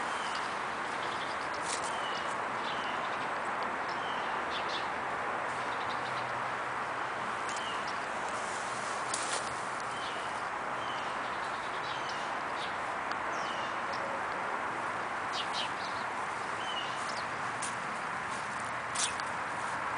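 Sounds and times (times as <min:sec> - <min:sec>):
outdoor background hiss: 0:00.0 - 0:19.9.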